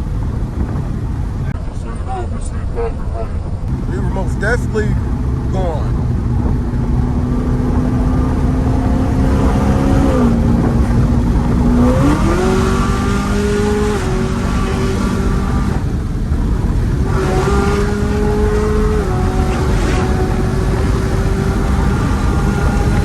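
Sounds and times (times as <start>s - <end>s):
car engine revving: 3.6s - 23.0s.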